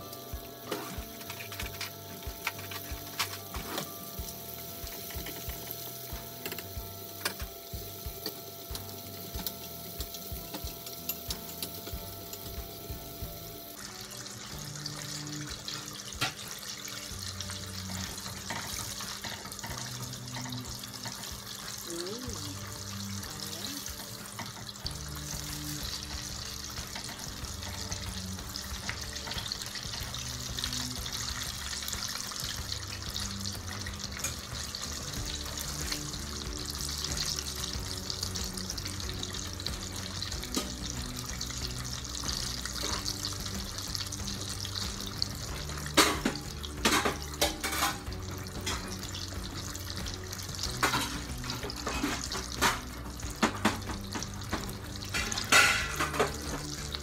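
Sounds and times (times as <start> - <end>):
background music: 0.0 - 57.0
chicken sizzling in hot oil: 0.0 - 57.0.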